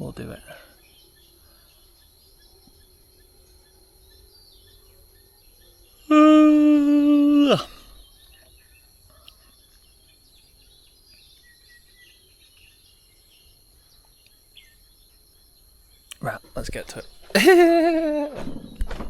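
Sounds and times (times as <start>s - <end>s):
insect whine: 0.0s - 19.0s.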